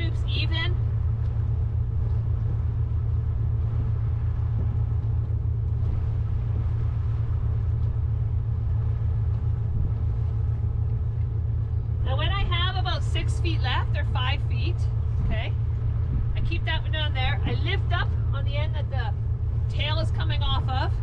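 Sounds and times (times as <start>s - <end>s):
low machine rumble: 0.0s - 21.0s.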